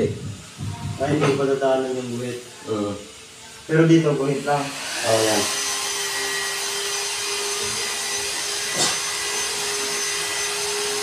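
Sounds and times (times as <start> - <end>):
small electric motor humming: 1.8 - 11.0.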